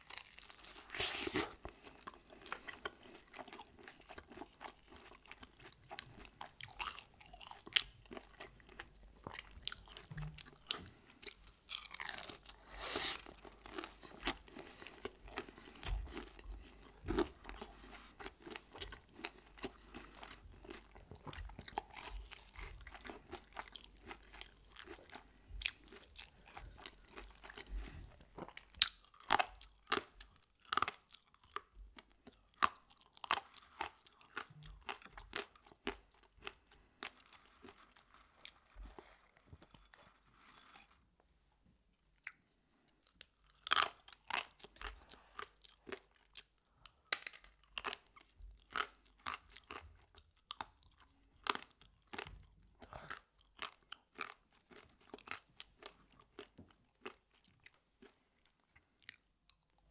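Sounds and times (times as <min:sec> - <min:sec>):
chewing crispy food crunches: 0:00.0 - 0:41.1, 0:42.1 - 0:59.9.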